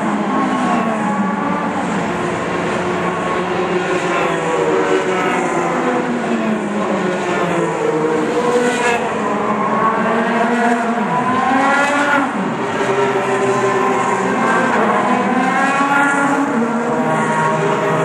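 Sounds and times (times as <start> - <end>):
cars running around circuit: 0.0 - 18.0
race cars passing at speed: 0.0 - 18.0.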